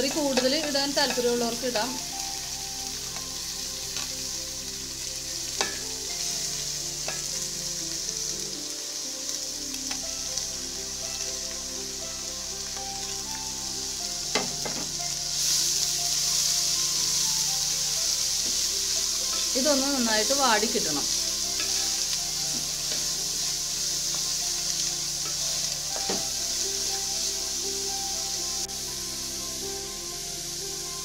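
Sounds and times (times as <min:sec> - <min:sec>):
vegetables sizzling in a pan: 0:00.0 - 0:31.0.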